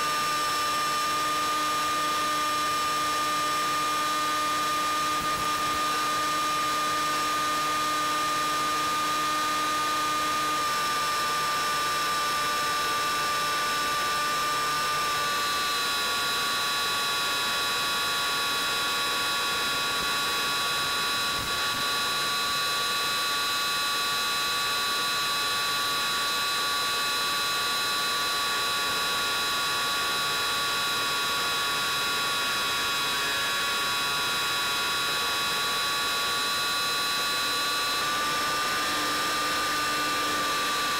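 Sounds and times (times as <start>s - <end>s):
model plane motor and propeller whining: 0.0s - 40.9s.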